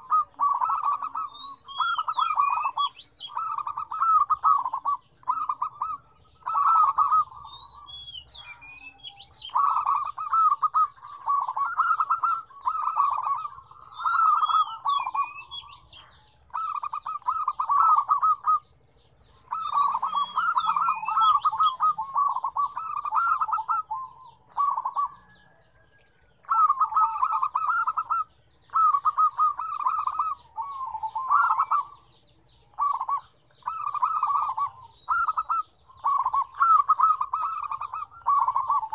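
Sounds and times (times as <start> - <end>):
doves cooing: 0.0 - 38.9
higher bird chirps: 0.0 - 38.9.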